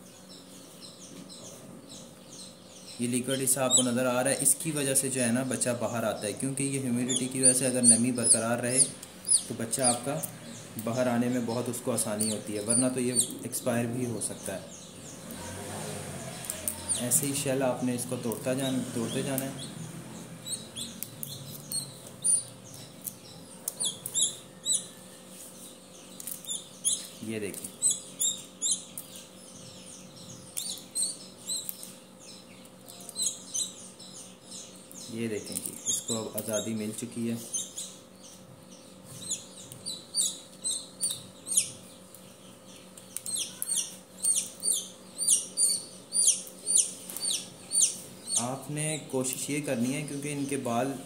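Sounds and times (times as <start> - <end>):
chick peeping: 0.0 - 51.0.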